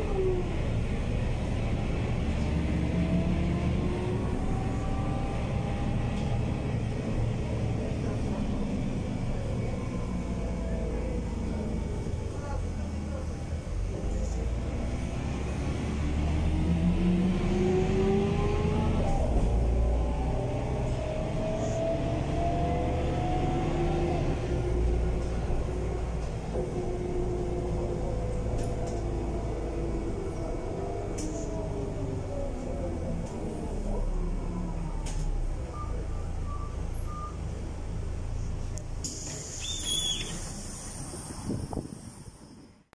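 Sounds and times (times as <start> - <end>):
bus engine running low: 0.0 - 42.9.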